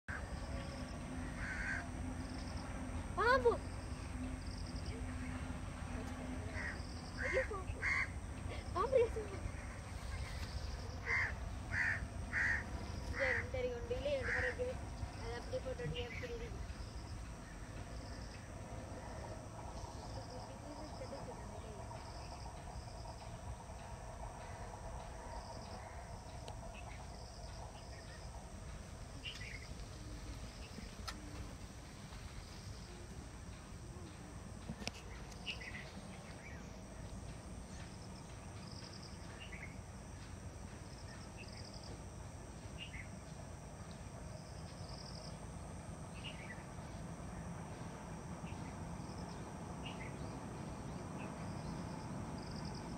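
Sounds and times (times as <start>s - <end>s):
steady low rumble: 0.1s - 52.9s
insect chirping in pairs: 6.6s - 31.0s, 32.2s - 52.9s.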